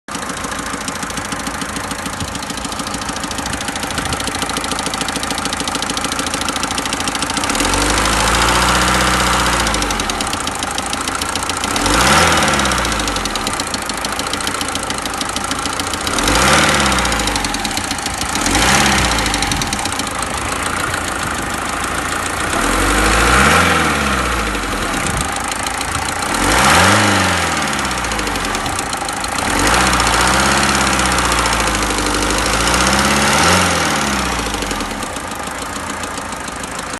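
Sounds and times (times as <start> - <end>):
diesel engine idling with knock: 0.1 - 36.9
engine revving: 0.1 - 36.9.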